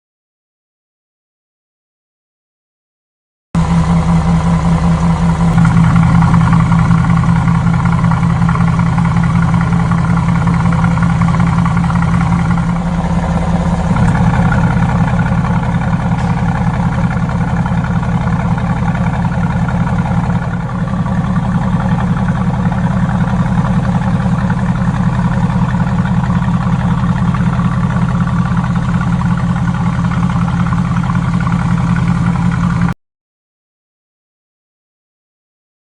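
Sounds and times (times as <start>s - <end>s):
car exhaust idling: 3.6s - 33.0s.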